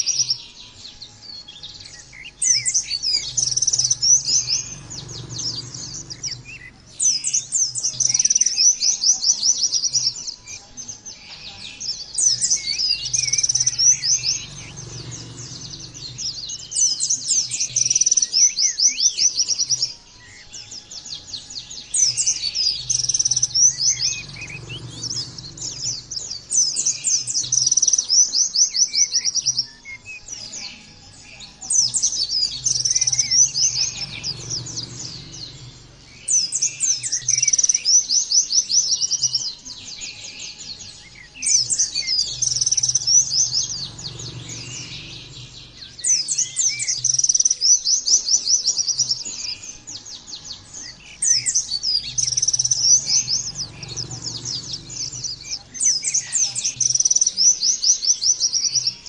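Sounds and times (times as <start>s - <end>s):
bird twittering chirps: 0.0s - 59.0s.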